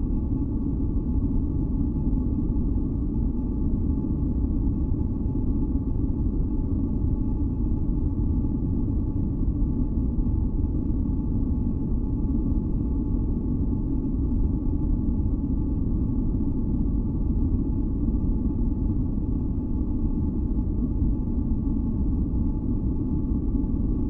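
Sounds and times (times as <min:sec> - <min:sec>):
deep low rumble noise: 0:00.0 - 0:24.0.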